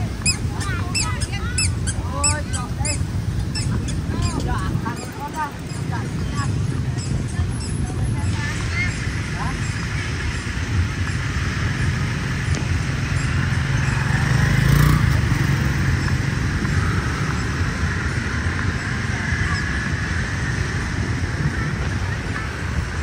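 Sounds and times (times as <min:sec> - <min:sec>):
street traffic rumble: 0:00.0 - 0:23.0
vehicle passing close: 0:00.0 - 0:23.0.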